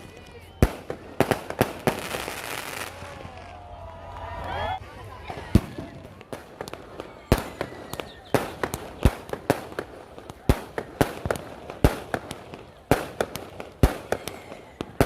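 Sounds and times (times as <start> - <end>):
firecrackers banging: 0.0 - 3.9, 4.8 - 15.0.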